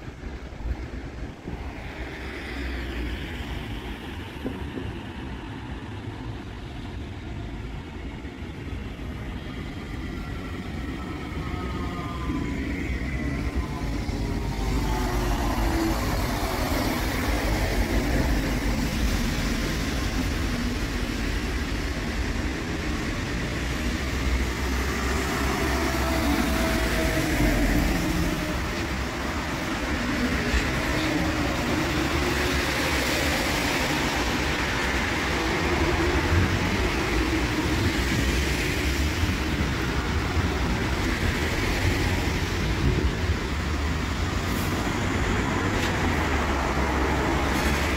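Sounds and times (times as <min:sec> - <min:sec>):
steel wheels rumbling on rails: 0:00.0 - 0:47.9.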